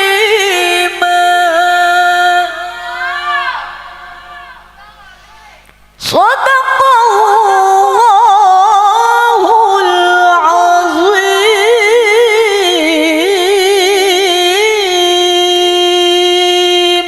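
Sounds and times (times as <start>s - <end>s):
woman reciting melodically: 0.0s - 17.0s.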